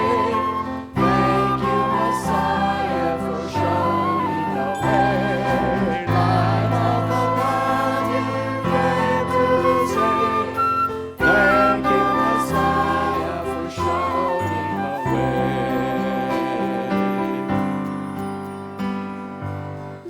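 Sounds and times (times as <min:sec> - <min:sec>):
voices singing worship music: 0:00.0 - 0:18.2.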